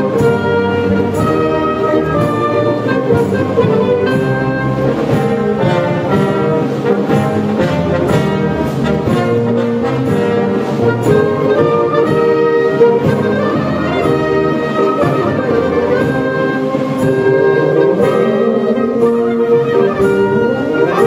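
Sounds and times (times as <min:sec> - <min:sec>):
military brass band playing: 0:00.0 - 0:21.0.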